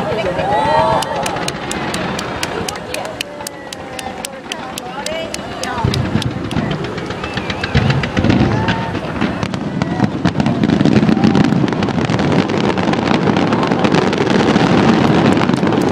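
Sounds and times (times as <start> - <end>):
fireworks crackling pops: 1.0 - 15.9.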